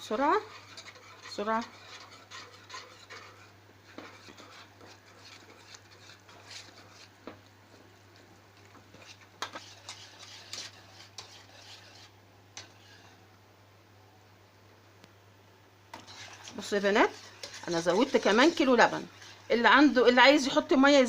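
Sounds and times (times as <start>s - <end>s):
whisk scraping in a pot: 0.0s - 7.8s, 8.6s - 13.3s, 15.9s - 21.0s
low steady hum: 0.0s - 21.0s.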